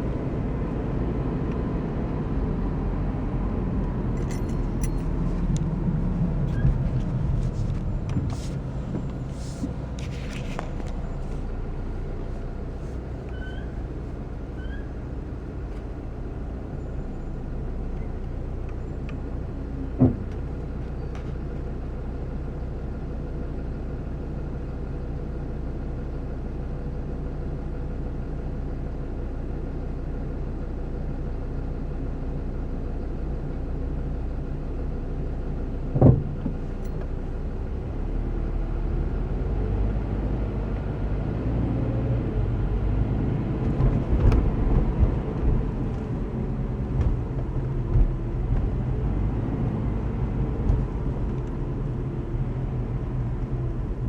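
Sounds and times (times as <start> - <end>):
road rumble: 0.0 - 54.0
car engine idling: 2.0 - 40.1, 42.4 - 54.0.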